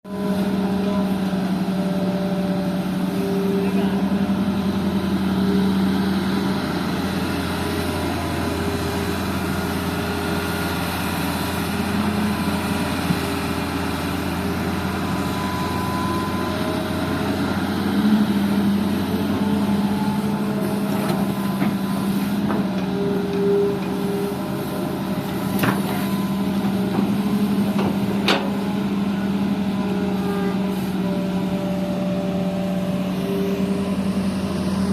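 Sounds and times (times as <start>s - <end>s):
heavy diesel machinery drone: 0.0s - 34.9s.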